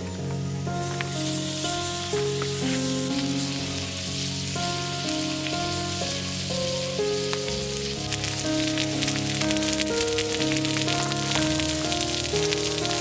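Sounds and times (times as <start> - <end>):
background music: 0.0 - 13.0
meat sizzling on a griddle: 0.1 - 13.0.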